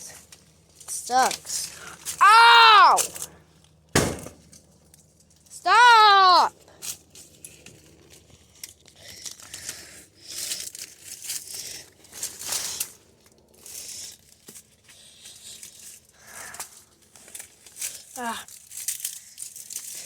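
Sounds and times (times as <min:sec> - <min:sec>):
foliage rustling and crinkling: 0:00.0 - 0:05.6, 0:06.6 - 0:20.0.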